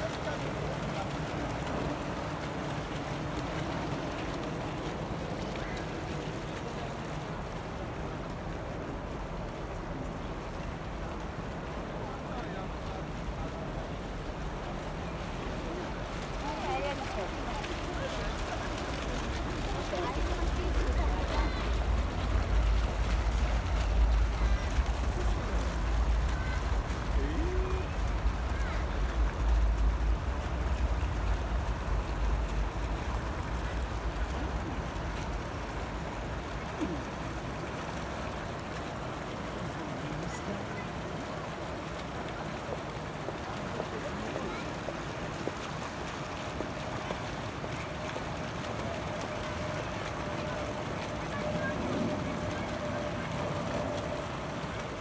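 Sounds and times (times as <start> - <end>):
city background hiss: 0.0 - 55.0
fountain jets splashing: 0.0 - 55.0.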